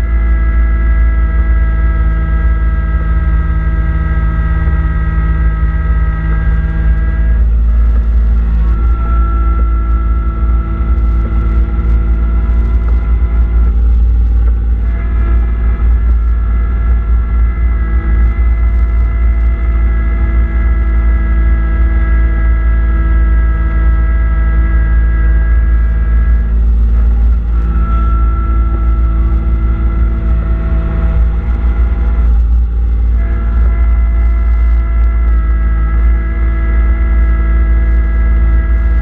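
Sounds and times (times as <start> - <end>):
tractor diesel engine rumbling: 0.0 - 21.6, 22.2 - 39.0
snowblower whine: 0.0 - 39.0.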